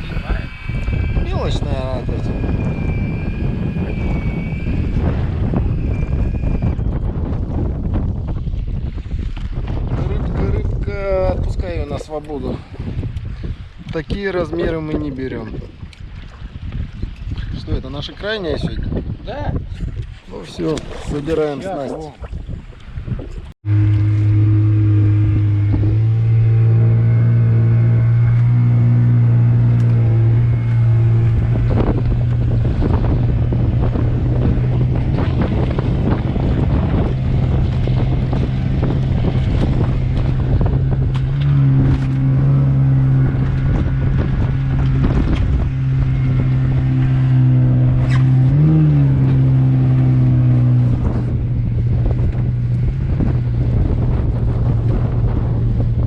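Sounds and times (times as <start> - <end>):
outboard motor running: 0.0 - 18.8, 23.6 - 56.0
water splashing against hull: 0.0 - 56.0
wind buffeting microphone: 0.0 - 56.0.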